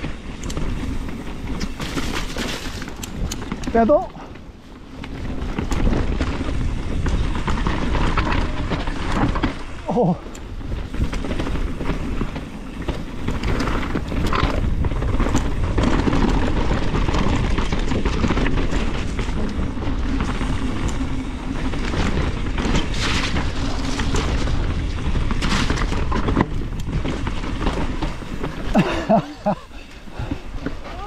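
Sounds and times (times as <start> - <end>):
bike knocks and rattles: 0.0 - 31.0
bike tyre noise on dirt: 0.0 - 31.0
wind buffeting: 0.0 - 31.0.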